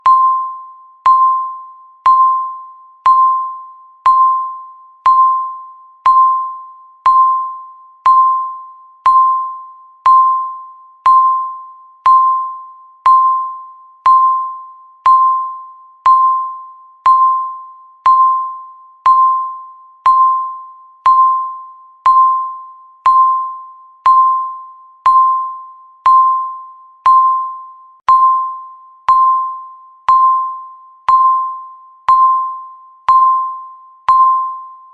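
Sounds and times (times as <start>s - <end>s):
countdown timer beeping: 0.0s - 34.9s.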